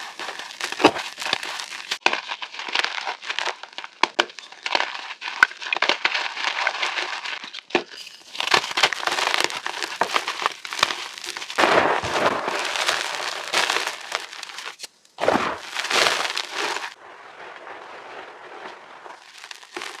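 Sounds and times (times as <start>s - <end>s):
chalk crunching and crumbling: 0.0s - 17.0s, 19.0s - 20.0s.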